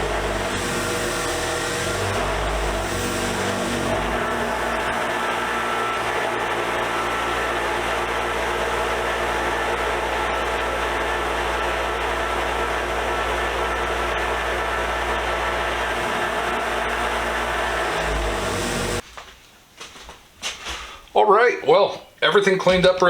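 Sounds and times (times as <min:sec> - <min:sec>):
electric wire wheel scrubbing: 0:00.0 - 0:19.0.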